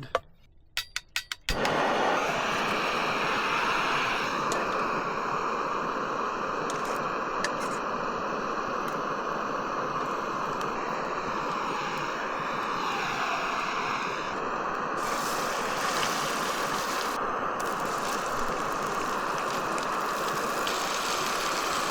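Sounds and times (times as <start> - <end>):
food sizzling in a pan: 1.6 - 21.9.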